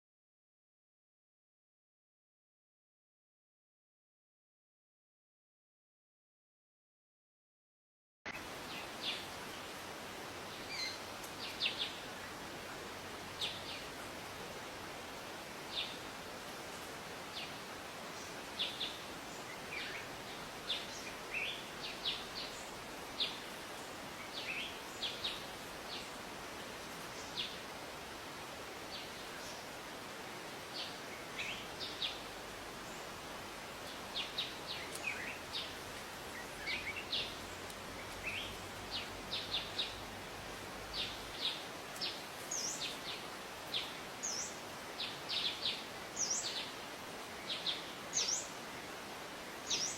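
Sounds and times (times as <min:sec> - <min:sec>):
outdoor background hiss: 0:08.3 - 0:49.9
wild birds chirping: 0:08.4 - 0:49.9.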